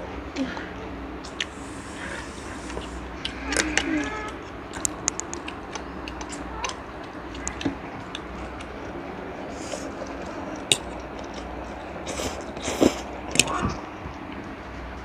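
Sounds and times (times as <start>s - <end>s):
noodle slurping: 1.2s - 13.6s.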